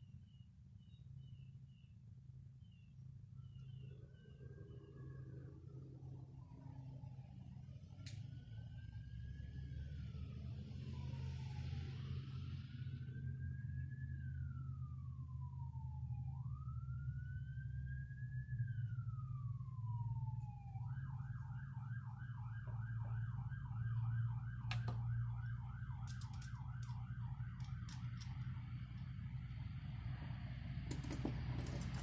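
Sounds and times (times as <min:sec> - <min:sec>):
emergency vehicle siren: 0:04.4 - 0:32.0.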